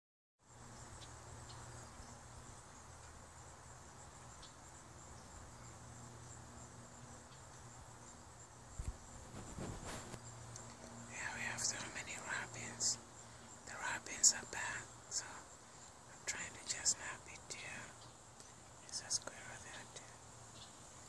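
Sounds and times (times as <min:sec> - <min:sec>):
crickets chirping: 0:00.4 - 0:21.0.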